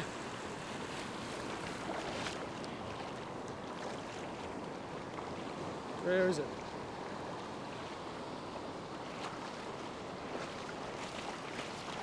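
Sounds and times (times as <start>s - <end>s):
surf washing around legs: 0.0s - 12.0s.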